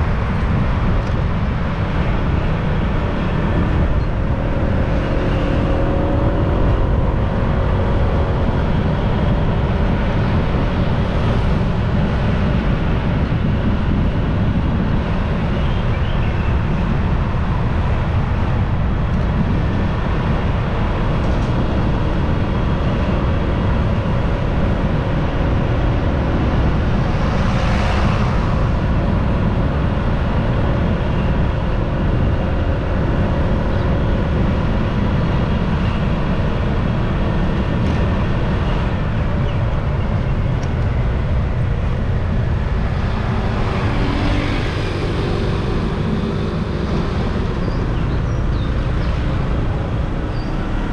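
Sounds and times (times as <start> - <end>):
wind and road noise: 0.0 - 50.9.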